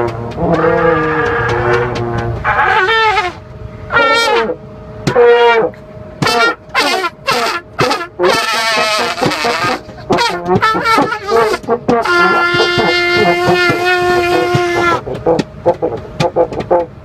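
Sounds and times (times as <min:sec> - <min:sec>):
trumpet and horn brass melody: 0:00.0 - 0:17.0.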